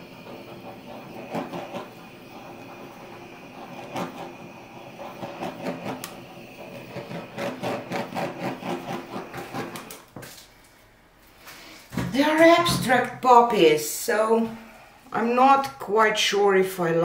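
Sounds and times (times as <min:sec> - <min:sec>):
butane torch hissing: 0:00.0 - 0:15.7.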